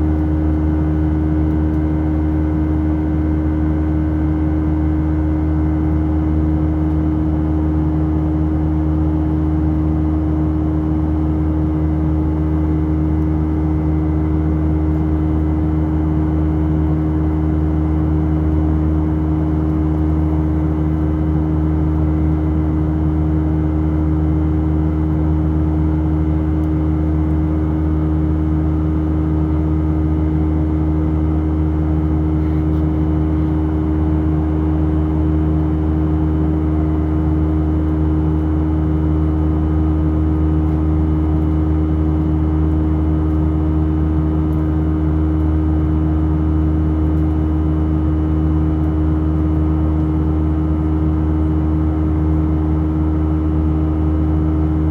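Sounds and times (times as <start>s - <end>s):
airliner cabin drone: 0.0s - 54.9s
low steady hums: 0.0s - 54.9s.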